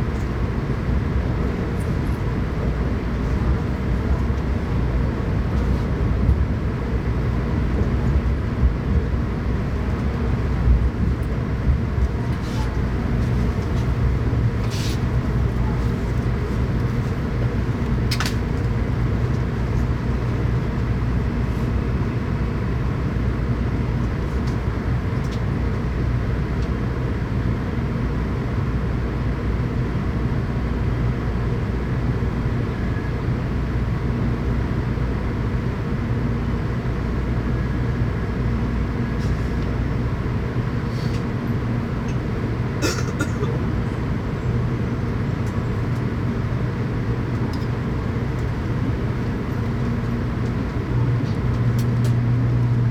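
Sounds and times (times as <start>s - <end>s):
train interior low rumble: 0.0s - 52.9s.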